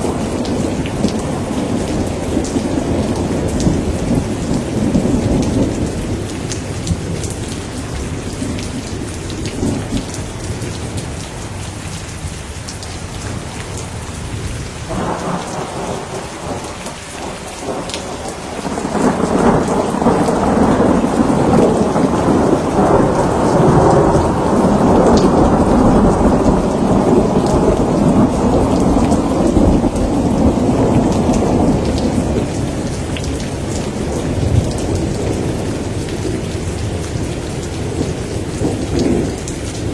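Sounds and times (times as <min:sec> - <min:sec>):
rolling thunder: 0:00.0 - 0:10.4, 0:14.3 - 0:39.9
steady rain: 0:00.0 - 0:39.9.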